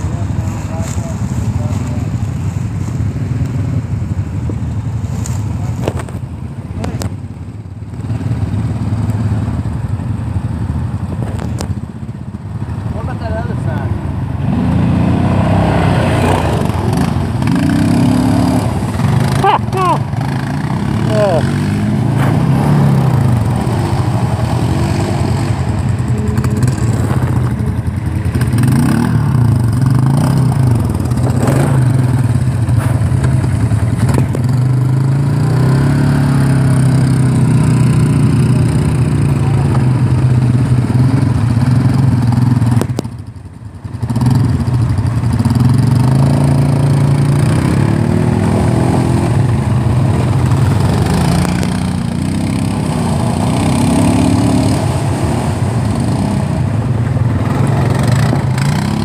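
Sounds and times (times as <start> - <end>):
quad bike engines revving: 0.0 - 59.0.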